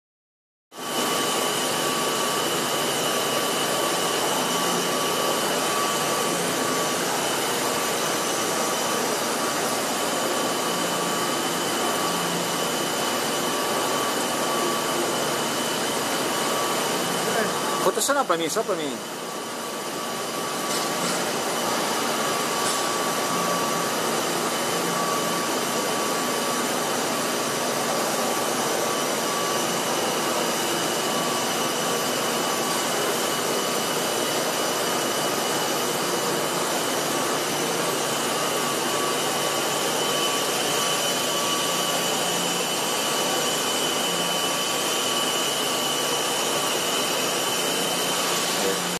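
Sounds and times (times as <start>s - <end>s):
high machine whine: 0.8s - 48.9s
machine whirring hum: 0.8s - 48.9s.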